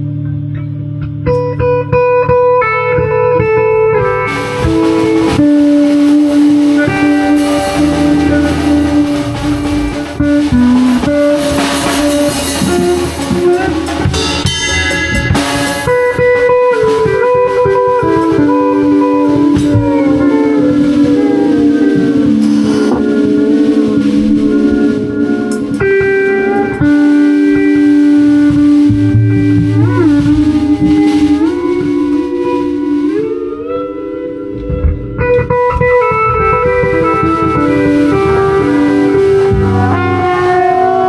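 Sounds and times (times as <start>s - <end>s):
single pitched notes: 0.0s - 41.0s
band playing: 1.3s - 41.0s
percussion hits: 3.7s - 41.0s.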